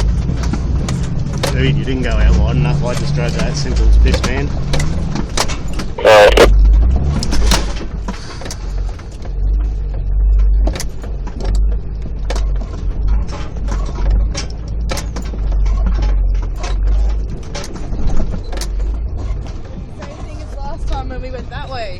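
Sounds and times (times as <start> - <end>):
low engine rumble: 0.0 - 21.9.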